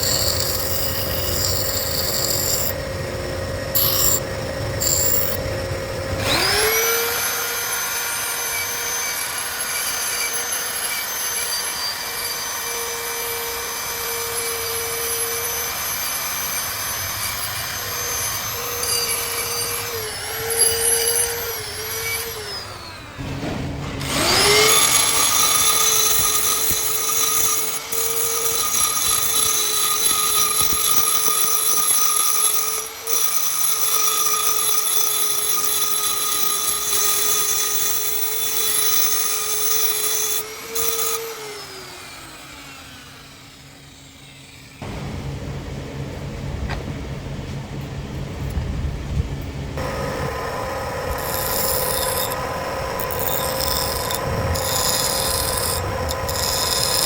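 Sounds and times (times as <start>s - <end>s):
power tool motor whine: 0.0s - 23.2s, 24.0s - 45.0s, 49.8s - 57.0s.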